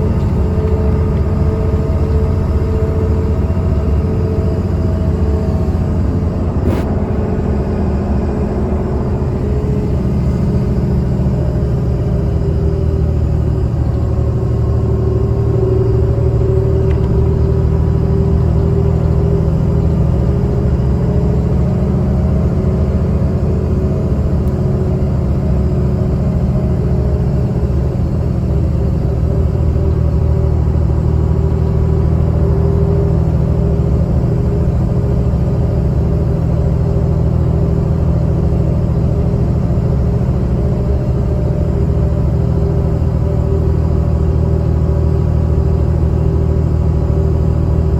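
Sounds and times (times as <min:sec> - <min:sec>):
bus diesel engine rumble: 0:00.0 - 0:47.9
road noise: 0:00.0 - 0:47.9.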